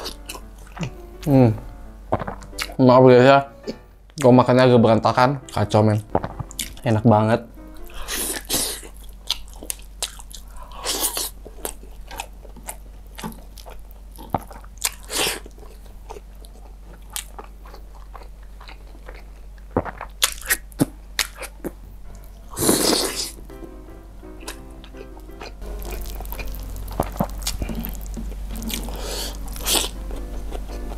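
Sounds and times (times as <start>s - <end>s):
crunching bites and chewing: 0.0s - 1.5s, 2.1s - 2.8s, 5.4s - 6.9s, 7.7s - 23.4s, 24.4s - 30.9s.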